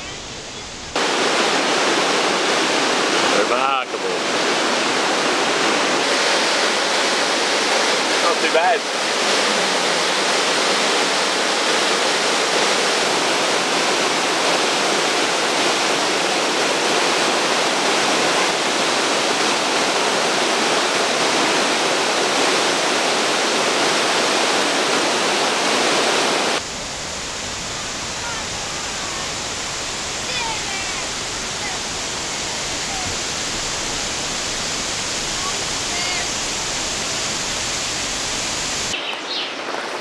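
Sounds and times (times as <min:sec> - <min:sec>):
waterfall roar: 0:00.0 - 0:40.0.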